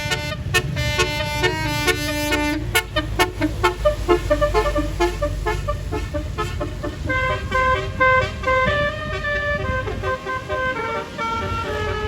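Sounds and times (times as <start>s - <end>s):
bus engine rumbling: 0.0s - 12.0s
multi-tone air horn melody: 0.0s - 12.0s.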